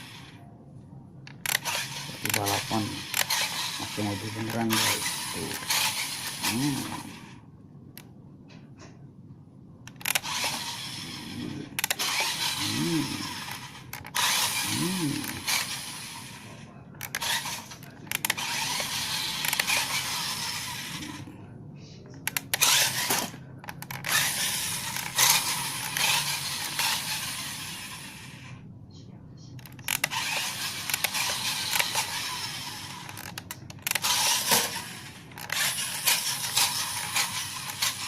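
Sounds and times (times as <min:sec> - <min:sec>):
rc car motor whirring: 0:00.0 - 0:00.3, 0:01.3 - 0:07.4, 0:09.9 - 0:21.3, 0:22.3 - 0:28.6, 0:29.6 - 0:38.0.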